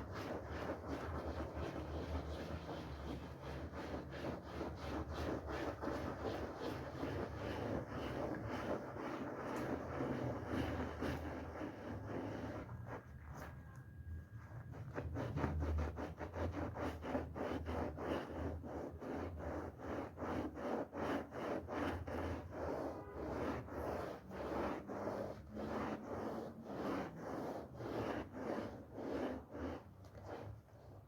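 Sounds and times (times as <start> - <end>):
rug being scrubbed: 0.0 - 13.6, 14.4 - 31.0.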